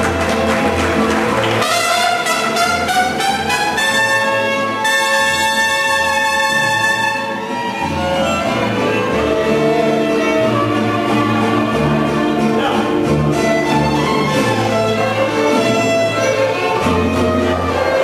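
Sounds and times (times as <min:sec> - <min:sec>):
mariachi band playing: 0:00.0 - 0:18.0.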